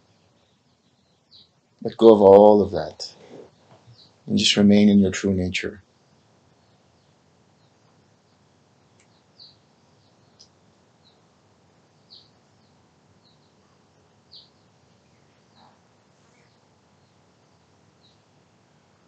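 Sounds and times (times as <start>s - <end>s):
small bird chirping: 0.0s - 2.1s, 2.8s - 4.4s, 5.8s - 19.0s.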